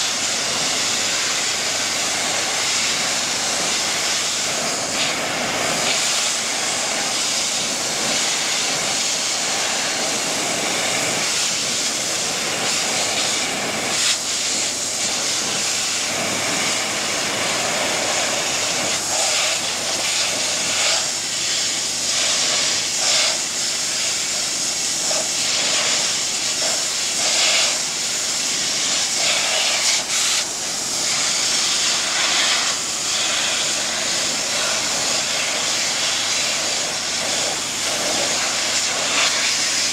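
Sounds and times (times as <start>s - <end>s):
pressure washer jet hissing on metal: 0.0s - 39.9s.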